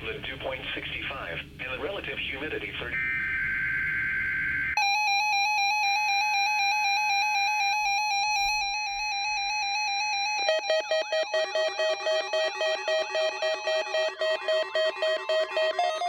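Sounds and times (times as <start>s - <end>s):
buzzy warning alarm tone: 3.0s - 16.0s
pulsing warbling alarm tones: 3.0s - 16.0s.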